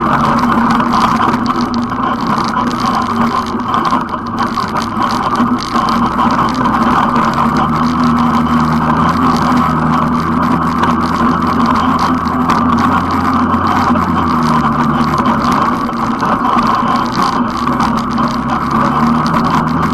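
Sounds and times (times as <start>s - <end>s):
atv engine running: 0.0s - 19.9s.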